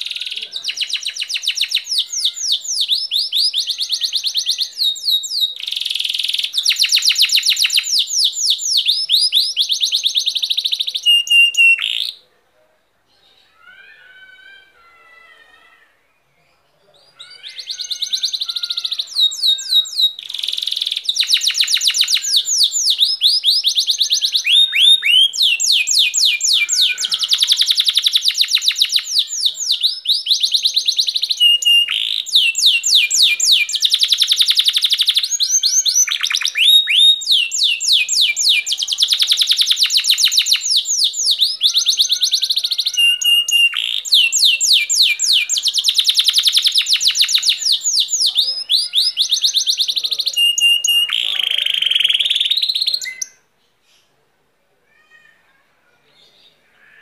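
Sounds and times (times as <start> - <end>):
canary singing trills: 0.0 - 12.3, 13.1 - 54.1.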